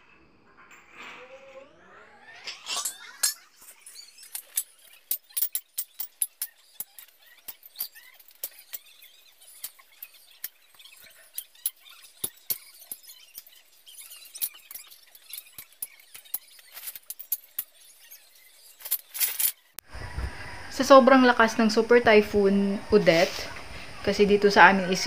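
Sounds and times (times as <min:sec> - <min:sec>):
faint squeaks: 0:00.0 - 0:25.0.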